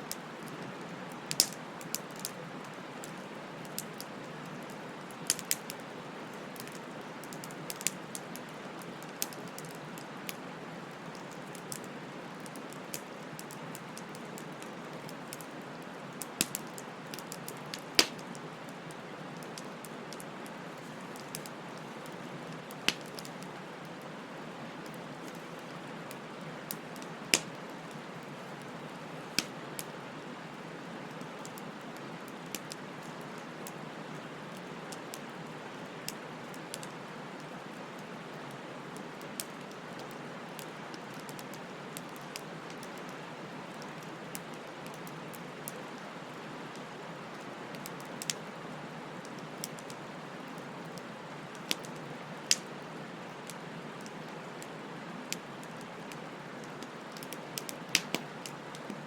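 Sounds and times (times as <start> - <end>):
bonfire crackles and pops: 0.1 - 59.0.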